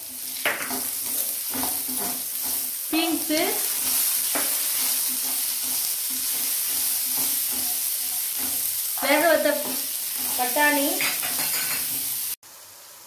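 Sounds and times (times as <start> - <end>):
spatula scraping a pan: 0.0 - 12.3
vegetables sizzling in hot oil: 0.0 - 13.0.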